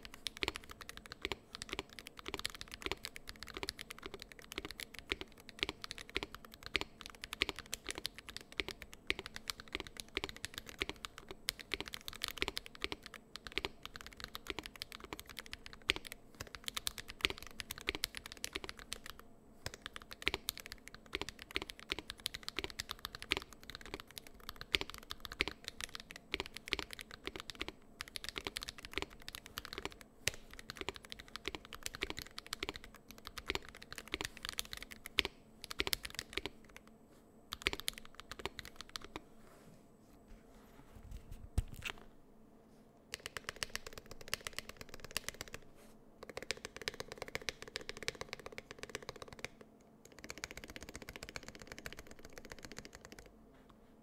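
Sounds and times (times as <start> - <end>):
fast mechanical keyboard typing: 0.0 - 36.9, 37.5 - 39.2, 43.1 - 45.6, 46.2 - 53.3.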